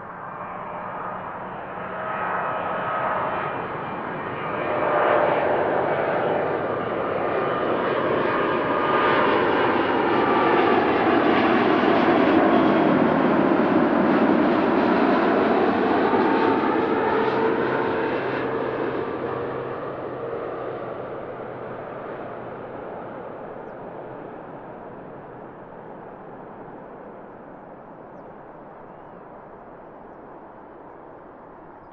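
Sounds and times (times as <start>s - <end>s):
jet engines passing: 0.0s - 31.9s.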